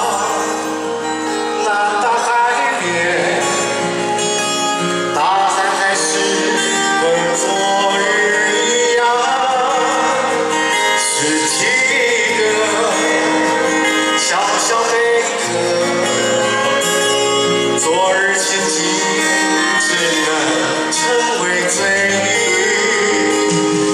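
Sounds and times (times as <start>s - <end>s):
guitar accompaniment: 0.0s - 23.9s
man singing a ballad: 0.0s - 23.9s.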